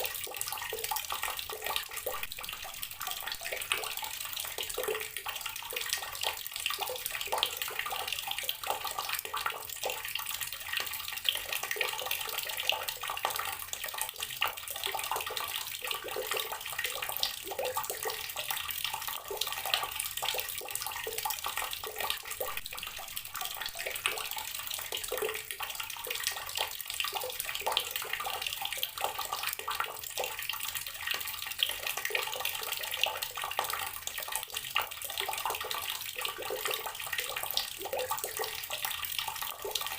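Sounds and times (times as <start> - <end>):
water splashing from tap: 0.0 - 39.9.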